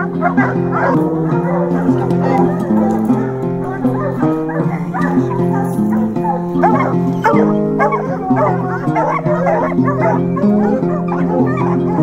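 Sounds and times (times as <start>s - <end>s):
background music with sustained chords: 0.0s - 12.0s
hounds barking and baying: 0.0s - 12.0s.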